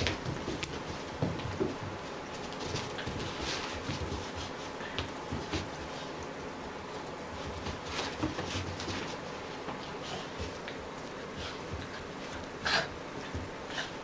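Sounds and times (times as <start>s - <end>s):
scuffling on a rug: 0.0s - 6.3s, 7.2s - 12.5s.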